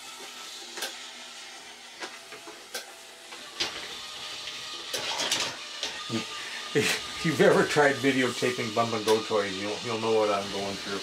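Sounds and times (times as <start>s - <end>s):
toy robot motor whirring: 0.0s - 11.0s.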